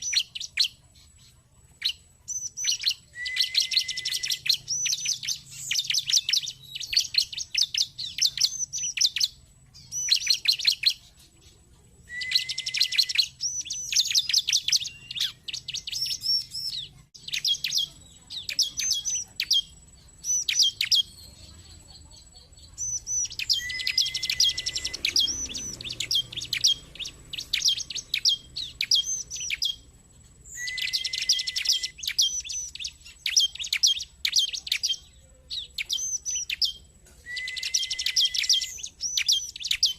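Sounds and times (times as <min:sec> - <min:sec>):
bird song rapid high chirping: 0:00.0 - 0:39.9.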